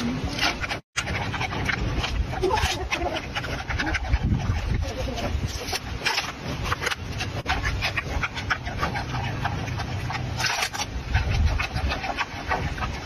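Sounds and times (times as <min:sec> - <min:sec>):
panda crunching bamboo: 0:00.0 - 0:13.0.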